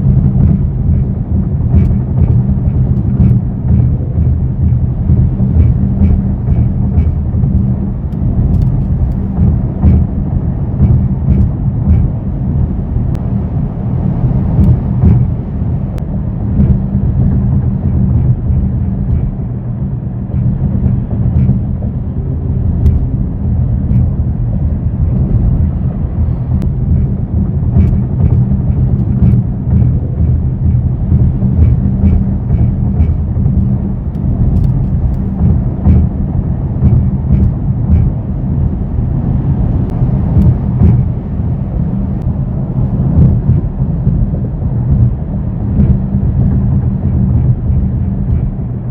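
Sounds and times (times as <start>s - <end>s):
car cabin drone: 0.0s - 48.9s.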